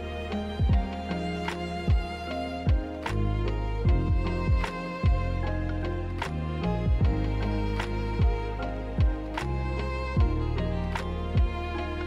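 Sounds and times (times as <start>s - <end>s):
music with held notes: 0.0s - 12.0s
slow deep drum beat: 0.6s - 12.0s.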